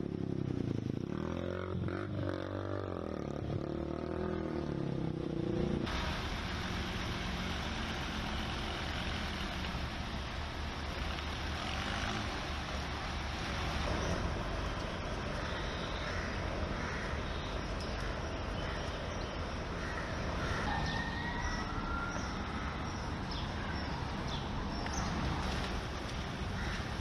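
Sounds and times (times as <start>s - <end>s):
traffic on flooded street: 0.0s - 27.0s.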